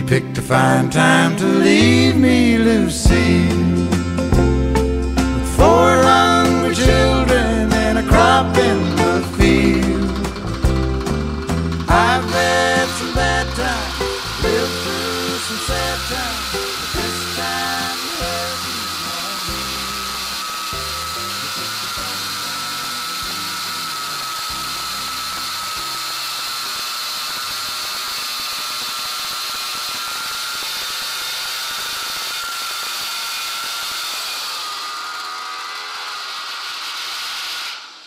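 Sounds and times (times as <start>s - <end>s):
bandsaw mill engine whining: 0.0s - 38.0s.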